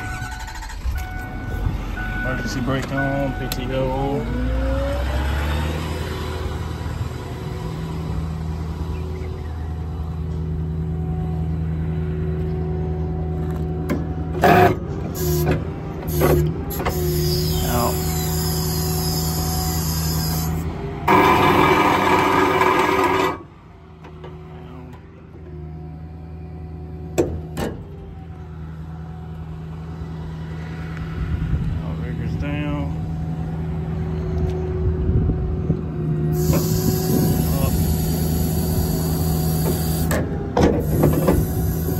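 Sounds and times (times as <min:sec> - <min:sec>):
diesel engine idling: 0:00.0 - 0:04.7, 0:06.2 - 0:41.9.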